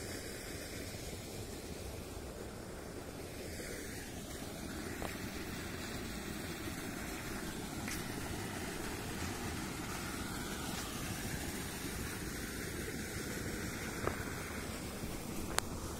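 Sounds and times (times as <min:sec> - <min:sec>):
water gushing into a tank: 0:00.2 - 0:15.9.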